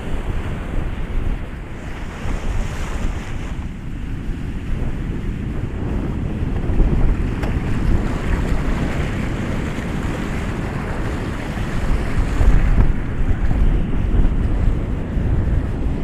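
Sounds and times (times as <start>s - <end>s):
ocean waves breaking: 0.0s - 16.0s
wind rumble on microphone: 0.0s - 16.0s.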